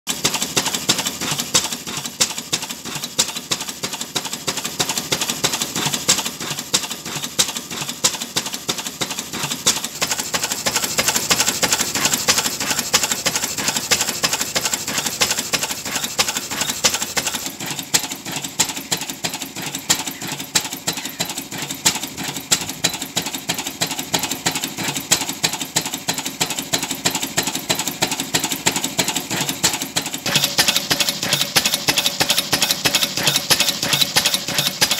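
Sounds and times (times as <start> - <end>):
stationary engine running: 0.1 - 34.9.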